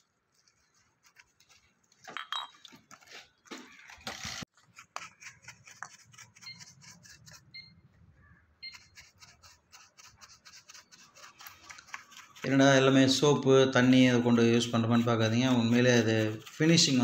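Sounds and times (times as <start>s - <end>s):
wet rag rubbing: 0.0s - 2.1s, 2.8s - 7.7s, 8.6s - 17.0s
brush scrubbing: 0.0s - 2.2s, 2.8s - 7.7s, 8.6s - 17.0s.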